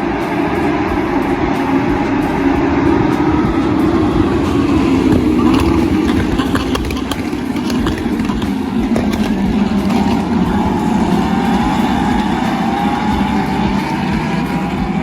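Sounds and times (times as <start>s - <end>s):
race car engine running hard: 0.0s - 15.0s
second engine rising: 0.0s - 15.0s.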